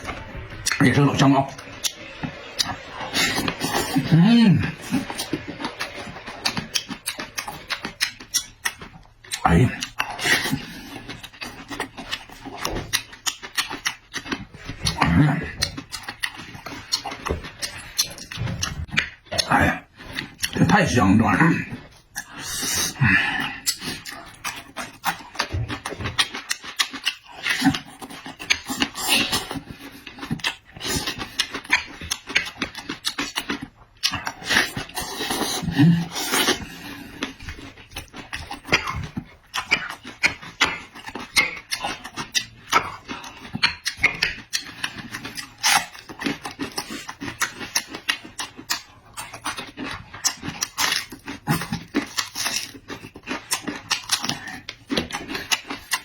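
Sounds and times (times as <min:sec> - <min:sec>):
chewing and smacking: 0:00.0 - 0:56.0.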